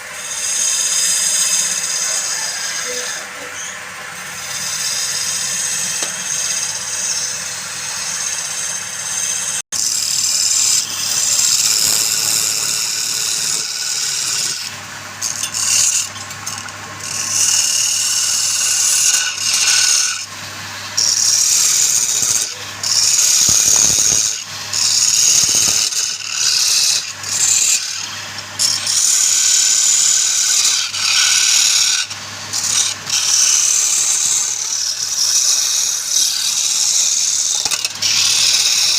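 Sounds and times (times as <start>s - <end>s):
tool hissing on spinning wood: 0.0s - 38.9s
wood lathe humming: 0.0s - 38.9s.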